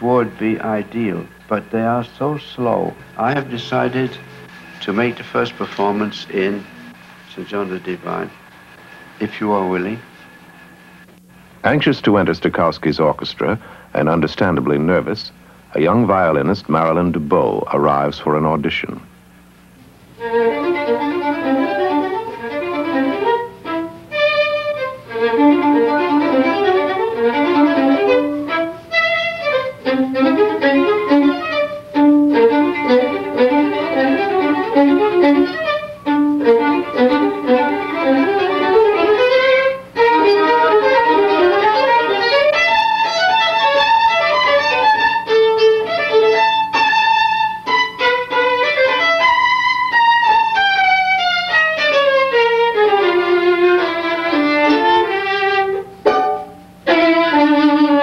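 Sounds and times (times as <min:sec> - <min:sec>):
solo violin playing: 0:00.0 - 0:11.9, 0:20.1 - 0:58.0
faint low hum: 0:00.0 - 0:58.0.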